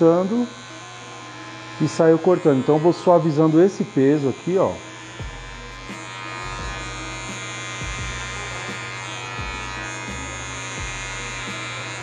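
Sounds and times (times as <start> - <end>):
electric hair clipper cutting hair: 0.0 - 12.0.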